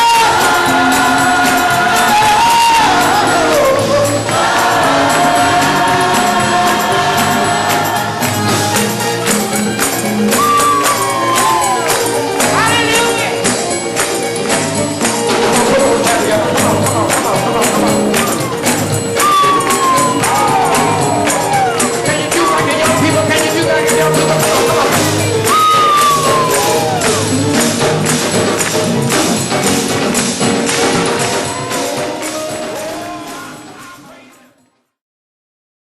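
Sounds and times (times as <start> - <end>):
gospel band playing: 0.0 - 34.6
rapid percussion: 0.0 - 34.6.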